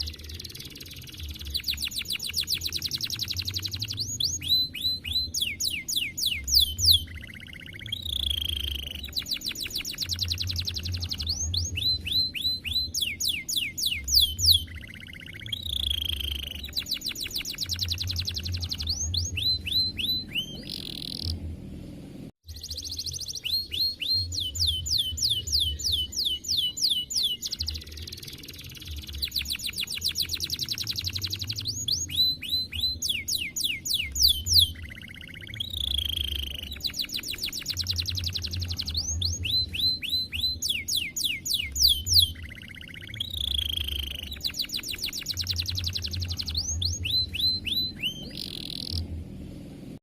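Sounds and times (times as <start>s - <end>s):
canary singing trills: 0.0s - 21.4s, 22.4s - 49.1s.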